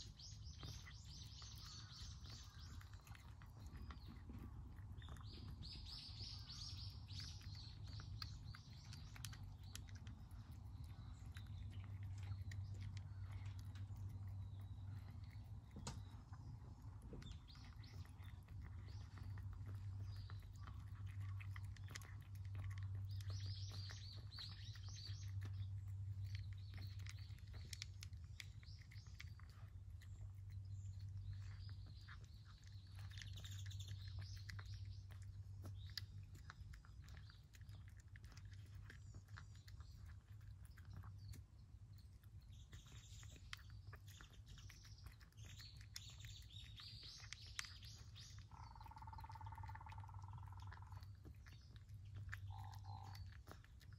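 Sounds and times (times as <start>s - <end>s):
birds chirping: 0.0s - 53.9s
cat chewing and lapping food: 0.0s - 53.9s.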